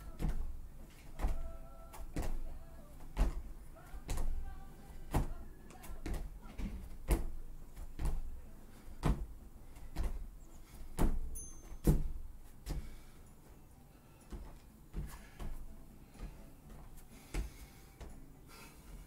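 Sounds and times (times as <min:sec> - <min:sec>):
feet thudding on gym mats: 0:00.0 - 0:13.2, 0:14.3 - 0:18.3.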